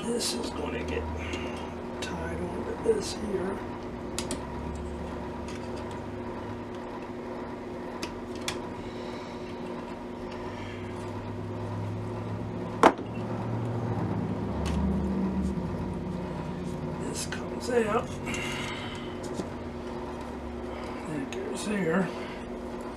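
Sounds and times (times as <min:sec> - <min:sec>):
steady background hum: 0:00.0 - 0:22.9.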